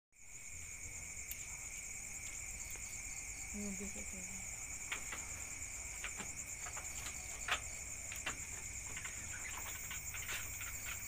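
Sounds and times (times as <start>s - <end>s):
crickets chirring: 0.2s - 11.0s.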